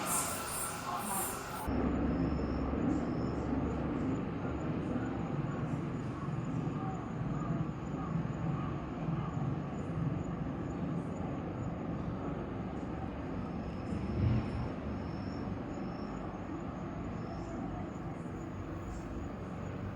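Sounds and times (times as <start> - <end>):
electric train rumbling: 0.0 - 19.9.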